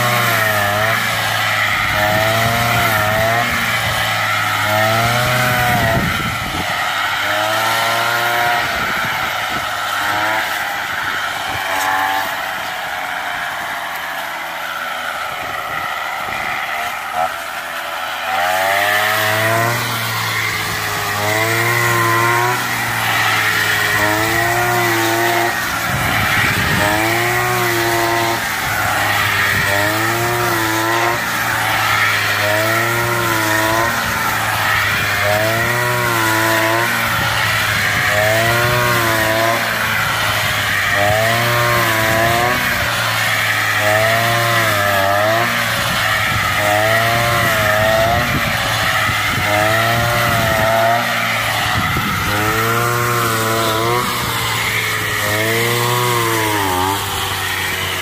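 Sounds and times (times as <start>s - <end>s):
brush cutter engine running hard: 0.0s - 58.0s.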